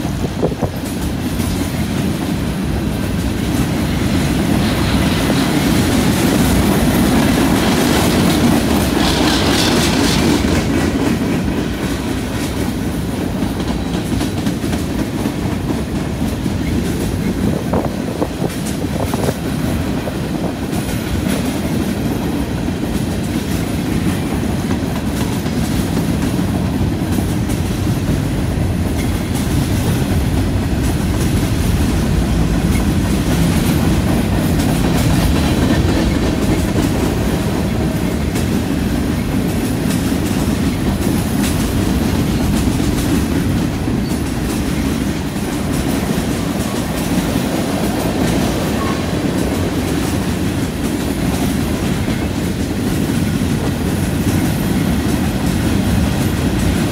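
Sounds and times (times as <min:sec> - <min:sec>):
freight train wheels rumbling on rail: 0:00.0 - 0:56.9.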